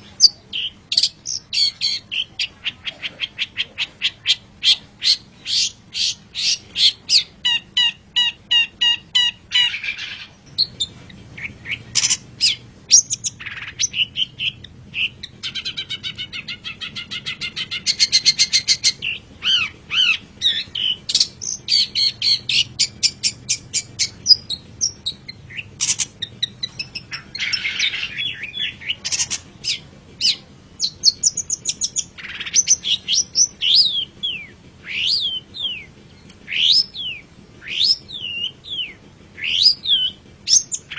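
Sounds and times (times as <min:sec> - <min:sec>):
bird singing fast varied song: 0:00.0 - 0:40.9.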